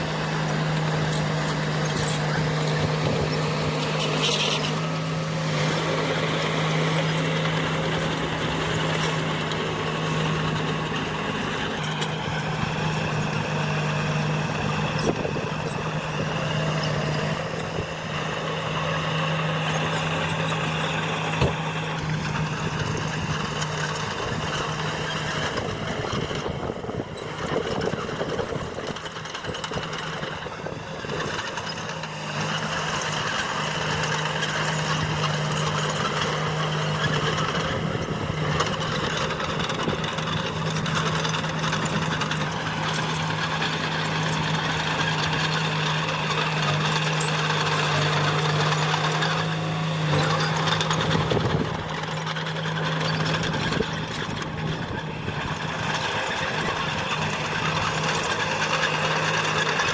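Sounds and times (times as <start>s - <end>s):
diesel machinery engine drone: 0.0s - 59.9s.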